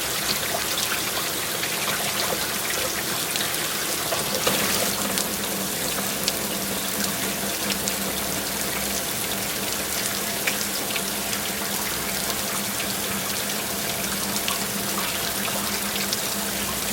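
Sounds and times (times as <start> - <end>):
running water rushing: 0.0 - 16.9.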